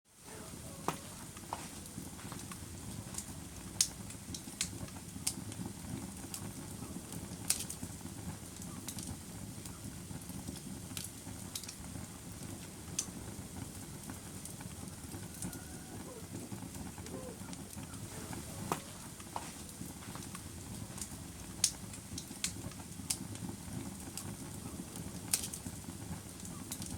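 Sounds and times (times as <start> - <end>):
fire crackling and popping: 0.1 - 26.9
low rumble of flame: 0.1 - 26.9.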